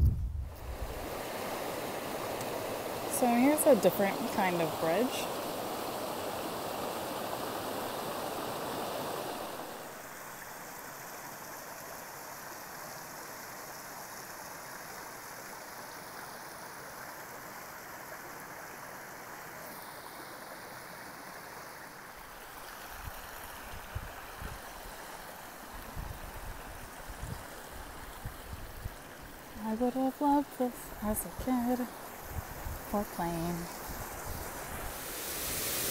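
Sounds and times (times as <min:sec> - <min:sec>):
creek water rushing over rocks: 0:00.5 - 0:35.9.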